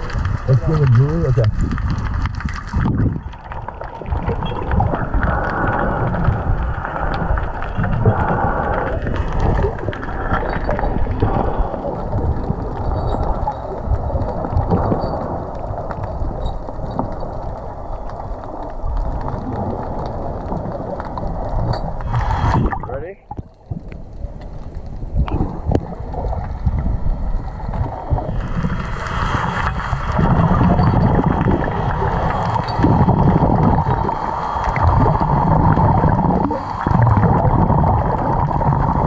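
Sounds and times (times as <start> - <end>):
low underwater rumbles: 0.0 - 39.0
underwater rushing and bubbling: 0.0 - 39.0.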